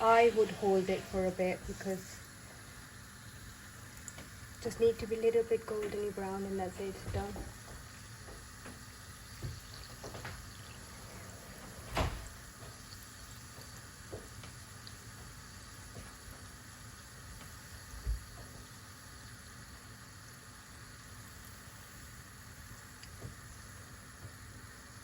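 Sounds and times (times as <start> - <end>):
corn dog sizzling in hot oil: 0.0 - 10.9, 12.0 - 25.0.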